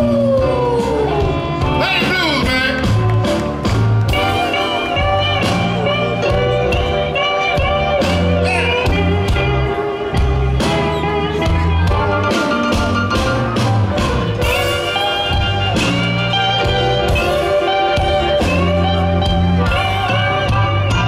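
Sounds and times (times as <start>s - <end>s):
electric guitar: 0.0s - 21.0s
heavy bass: 0.0s - 21.0s
amplified harmonica: 4.1s - 21.0s.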